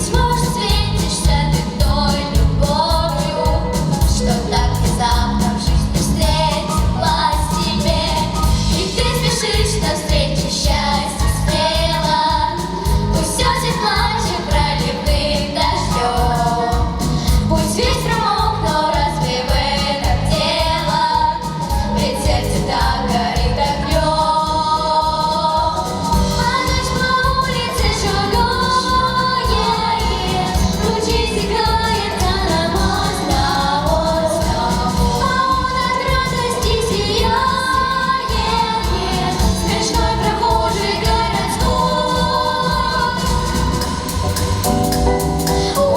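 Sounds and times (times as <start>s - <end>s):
accompaniment with steady beat: 0.0s - 45.9s
group singing a song: 0.0s - 45.9s.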